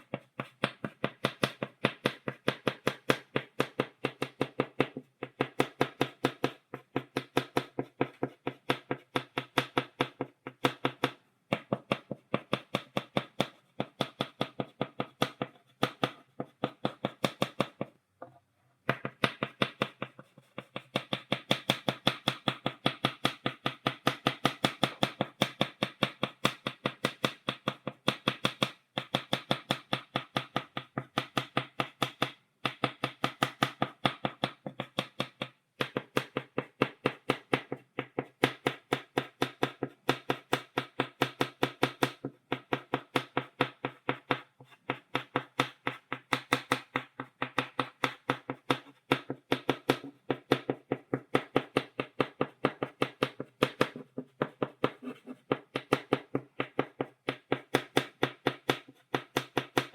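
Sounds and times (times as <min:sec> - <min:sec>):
chalk tapping on blackboard: 0:00.0 - 0:59.9.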